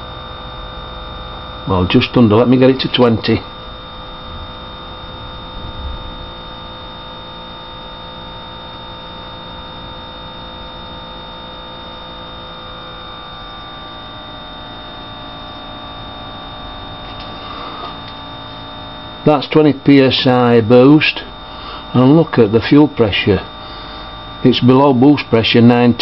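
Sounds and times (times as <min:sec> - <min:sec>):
electric fuel pump humming: 0:00.0 - 0:26.0.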